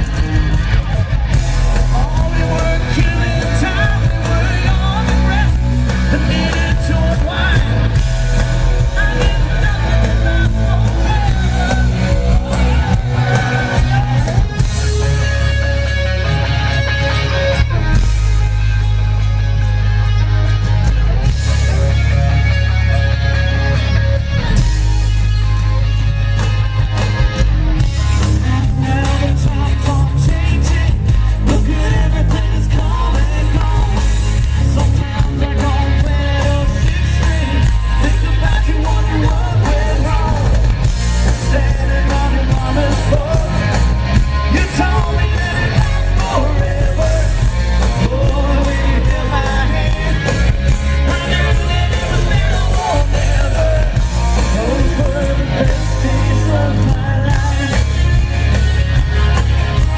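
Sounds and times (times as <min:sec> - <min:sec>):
rock band playing: 0:00.0 - 0:59.9
person singing: 0:00.1 - 0:16.8, 0:28.0 - 0:59.9.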